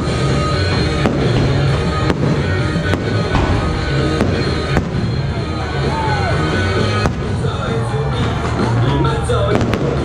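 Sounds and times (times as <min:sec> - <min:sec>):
fireworks bangs: 0:00.0 - 0:07.7, 0:09.4 - 0:10.0
loud music with heavy bass: 0:00.0 - 0:10.0.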